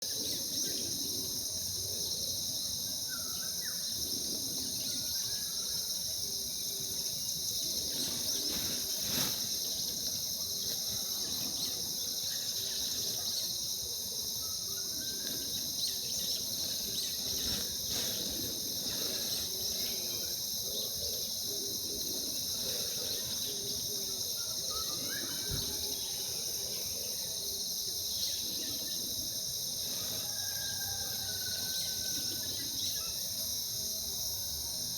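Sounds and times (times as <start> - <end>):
insect chorus: 0.0 - 34.9.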